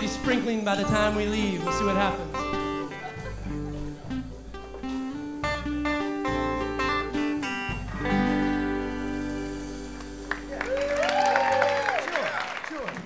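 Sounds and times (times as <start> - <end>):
plucked string music: 0.0 - 10.5
low bass line: 0.0 - 10.7.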